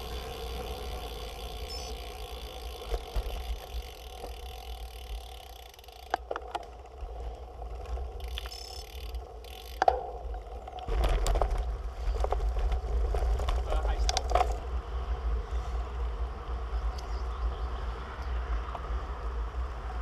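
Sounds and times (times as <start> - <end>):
bike rattling over cobblestones: 0.0 - 20.0
bike tyres and wind rumble: 0.0 - 20.0.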